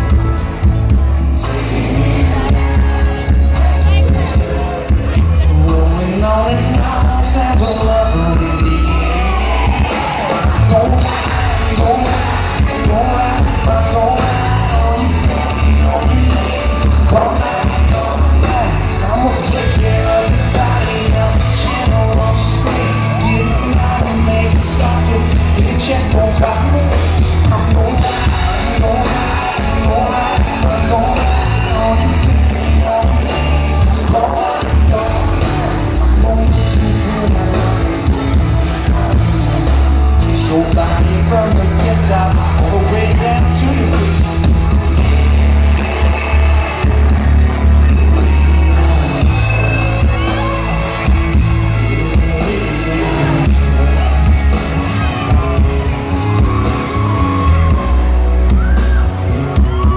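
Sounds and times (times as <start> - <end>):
country-rock band playing: 0.0 - 59.9
man singing: 0.0 - 59.9.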